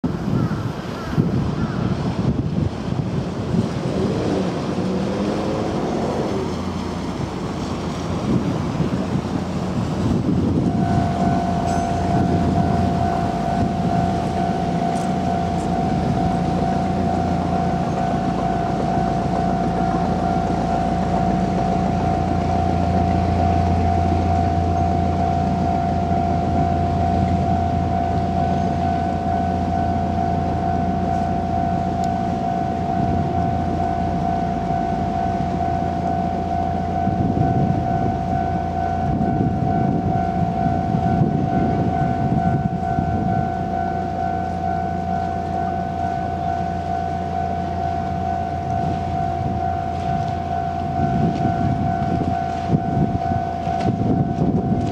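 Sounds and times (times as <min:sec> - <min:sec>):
low rumble of train: 0:00.0 - 0:54.9
level crossing warning alarm: 0:10.0 - 0:54.9.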